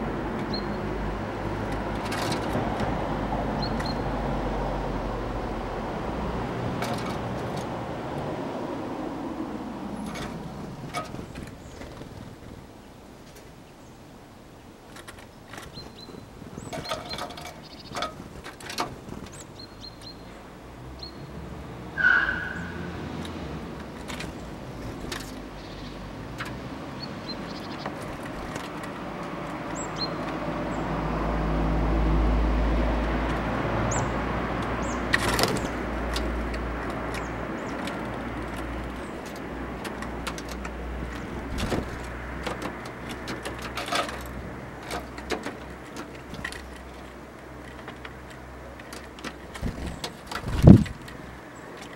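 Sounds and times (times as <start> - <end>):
small birds chirping: 0.0 - 2.6, 3.5 - 4.2, 9.6 - 21.8, 22.5 - 31.1, 33.8 - 51.9
passing road vehicle rumble: 0.0 - 51.9.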